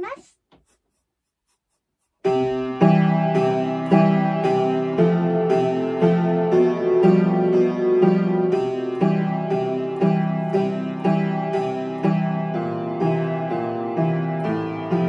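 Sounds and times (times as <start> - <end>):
upright piano playing: 2.3 - 15.0.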